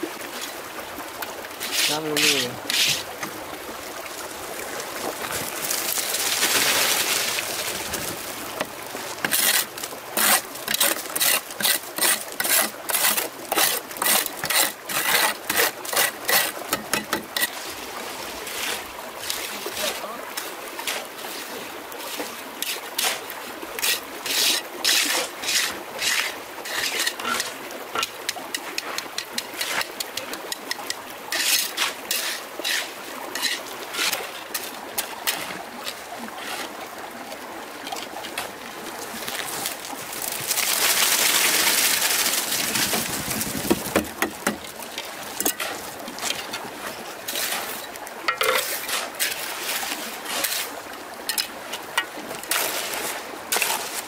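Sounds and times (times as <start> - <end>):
trickling stream water: 0.0 - 54.0
water rushing and splashing: 0.0 - 54.0.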